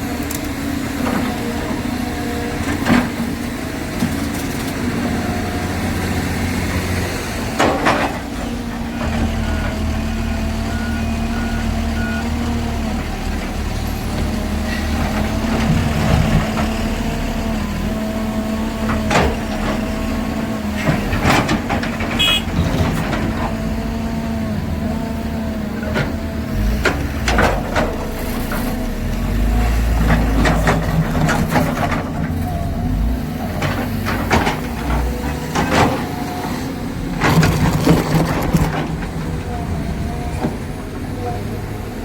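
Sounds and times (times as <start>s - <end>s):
diesel excavator engine running: 0.0s - 42.0s.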